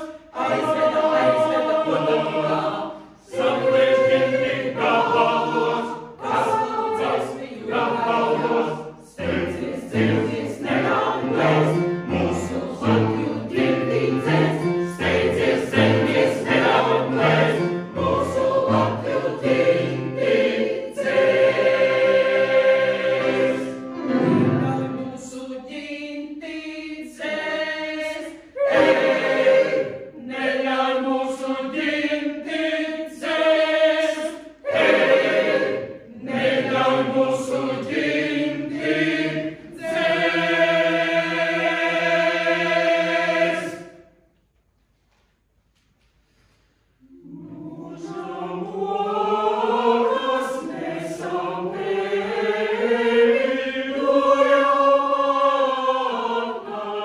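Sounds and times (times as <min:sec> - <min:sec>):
mixed choir singing: 0:00.0 - 0:44.1, 0:47.0 - 0:57.0.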